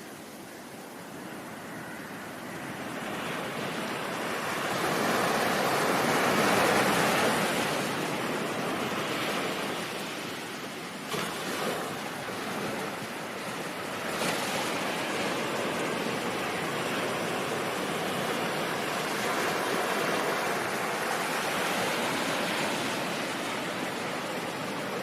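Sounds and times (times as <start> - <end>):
ocean wave surging: 0.0 - 25.0.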